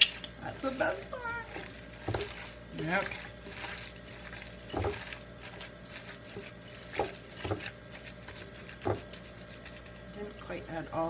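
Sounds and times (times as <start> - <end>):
hands squishing meat mixture: 0.0 - 10.6.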